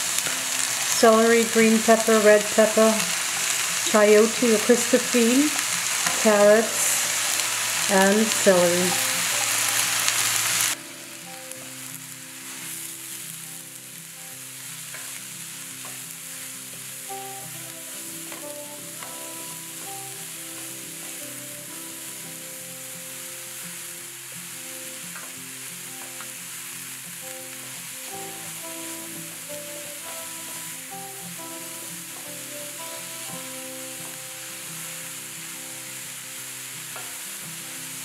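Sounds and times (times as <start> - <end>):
soft background music: 0.0 - 38.0
vegetables sizzling in oil: 0.0 - 38.0.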